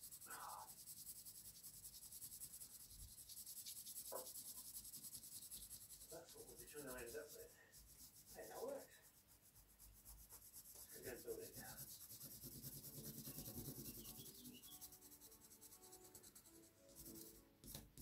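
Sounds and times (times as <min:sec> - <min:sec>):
pencil scratching on paper: 0:00.0 - 0:18.0.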